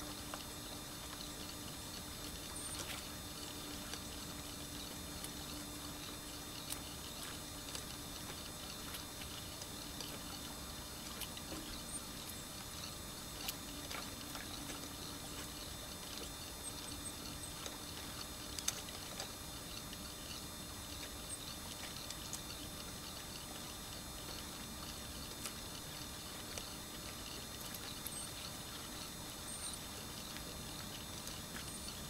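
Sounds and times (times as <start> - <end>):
faint clicks: 0.2 - 32.0.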